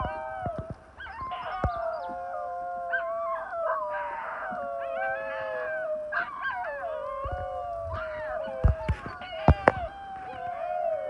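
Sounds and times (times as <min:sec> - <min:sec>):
dingoes howling: 0:00.0 - 0:11.0.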